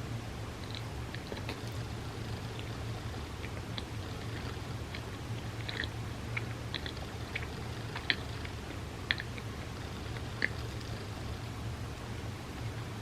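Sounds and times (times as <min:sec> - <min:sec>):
low hum: 0:00.0 - 0:13.0
chewing with wet mouth clicks: 0:00.6 - 0:11.6.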